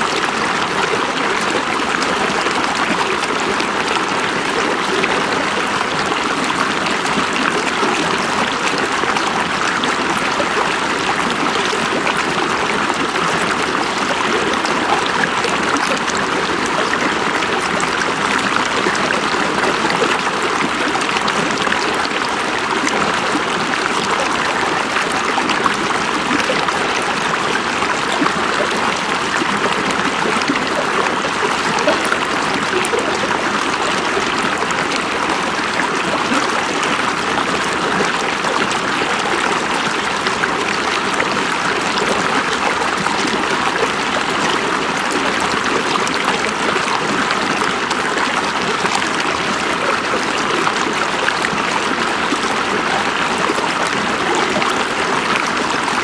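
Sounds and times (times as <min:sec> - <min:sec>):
river water babbling over rocks: 0:00.0 - 0:56.0.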